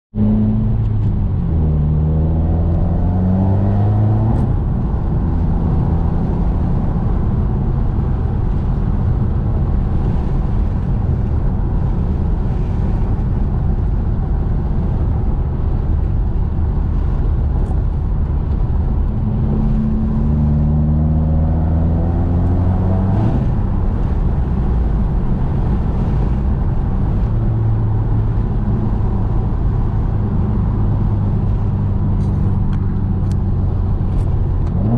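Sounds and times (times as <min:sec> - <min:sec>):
loud car engine accelerating: 0:00.1 - 0:34.9.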